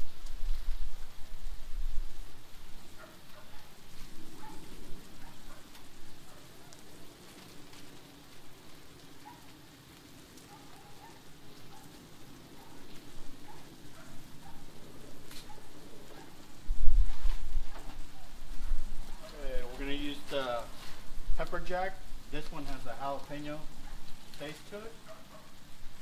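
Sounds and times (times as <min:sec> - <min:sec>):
meat and vegetables sizzling on griddle: 0:00.0 - 0:26.0.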